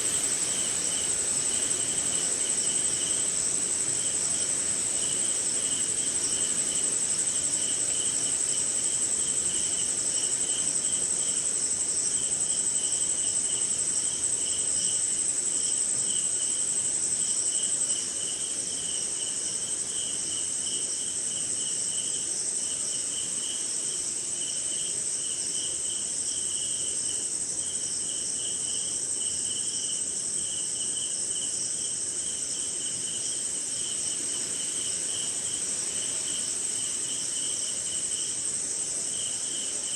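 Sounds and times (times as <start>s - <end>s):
crickets trilling: 0.0s - 39.9s
insects chirping in pulses: 0.0s - 39.9s.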